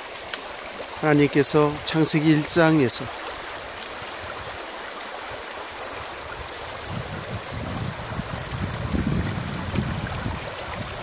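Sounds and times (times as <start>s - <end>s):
creek running over stones: 0.0s - 11.0s.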